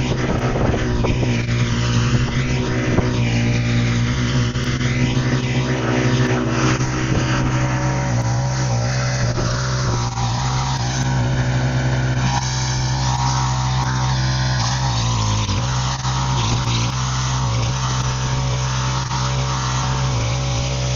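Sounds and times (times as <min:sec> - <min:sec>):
high-pitched whine: 0:00.0 - 0:20.9
lawn tractor running under load: 0:00.0 - 0:20.9.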